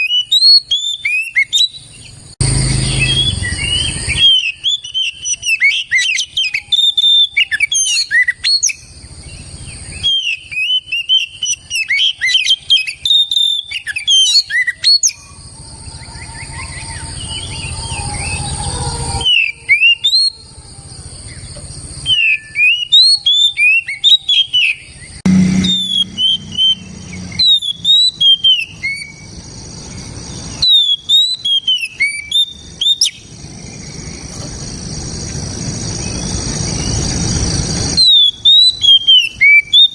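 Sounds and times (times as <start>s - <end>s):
bird singing whistled notes: 0.0s - 20.4s, 21.1s - 35.0s, 35.8s - 39.9s.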